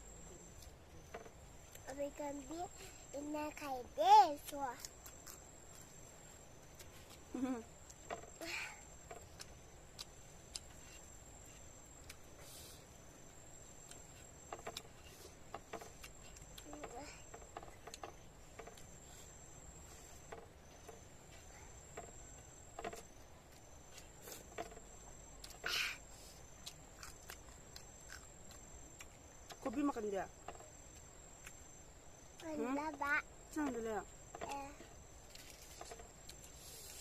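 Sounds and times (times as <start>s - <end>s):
crickets trilling: 0.0s - 37.0s
rustle: 0.0s - 37.0s.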